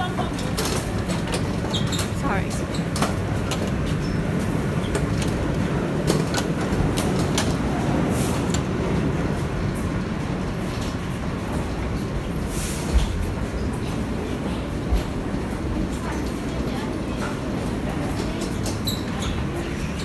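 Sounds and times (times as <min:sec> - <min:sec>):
clicks and knocks of passengers: 0:00.0 - 0:20.0
subway car rumble: 0:00.0 - 0:20.0.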